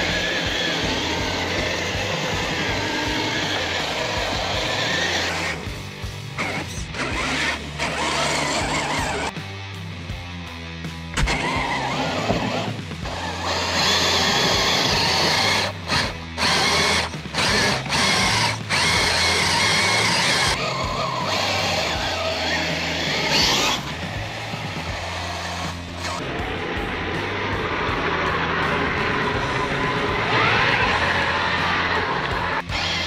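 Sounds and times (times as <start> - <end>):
electric motor whining: 0.0 - 9.4, 11.2 - 27.4, 28.0 - 33.0.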